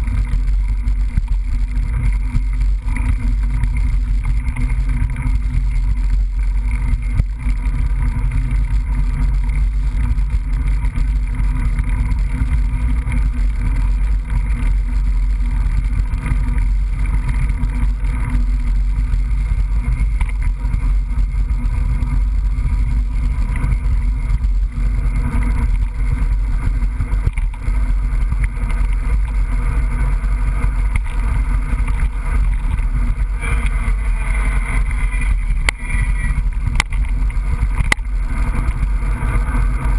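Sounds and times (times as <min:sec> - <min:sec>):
bike rumble on trail: 0:00.0 - 0:39.9
wind noise: 0:00.0 - 0:39.9.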